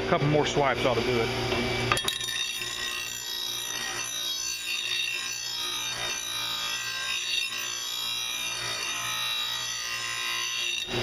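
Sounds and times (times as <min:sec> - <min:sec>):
grinder motor hum: 0:00.0 - 0:11.0
grinder wheel grinding metal blade: 0:01.7 - 0:11.0.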